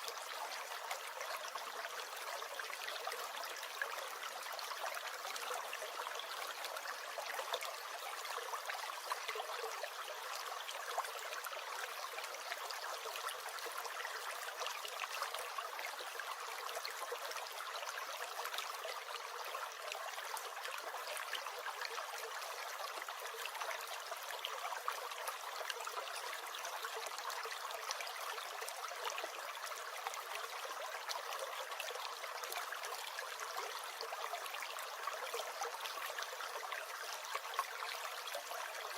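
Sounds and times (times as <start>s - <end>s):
brook gurgling over stones: 0.0s - 38.9s.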